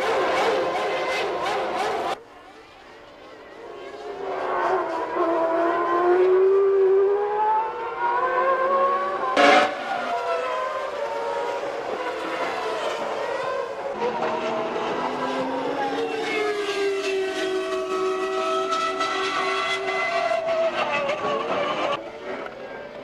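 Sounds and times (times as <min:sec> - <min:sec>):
racing engines at high revs: 0:00.0 - 0:02.2, 0:03.5 - 0:23.0.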